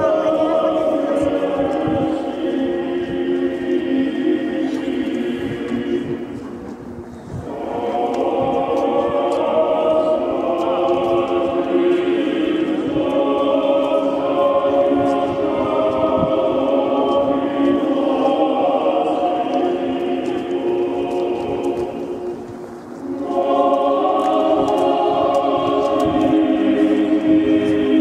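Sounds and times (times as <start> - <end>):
choir singing slow chords: 0.0 - 28.0.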